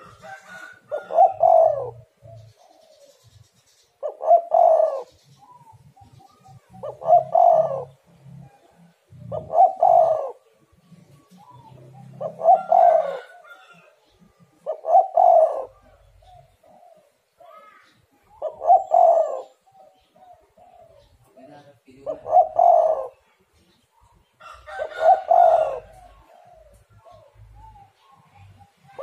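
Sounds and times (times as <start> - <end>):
dove cooing: 0.0 - 23.4, 24.0 - 29.0.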